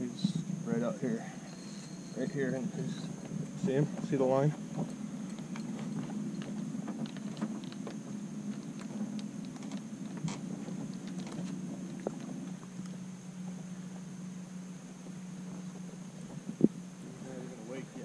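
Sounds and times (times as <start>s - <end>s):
faint high whine: 0.0s - 18.0s
steady low hum: 0.0s - 18.0s.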